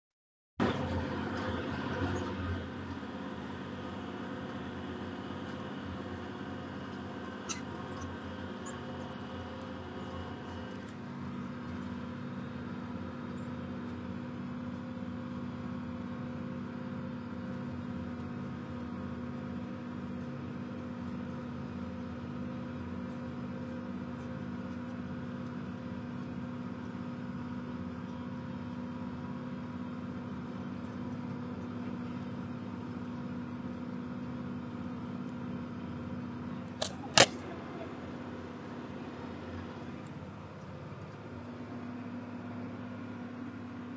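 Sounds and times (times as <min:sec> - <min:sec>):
tractor engine drone: 0:00.6 - 0:43.9.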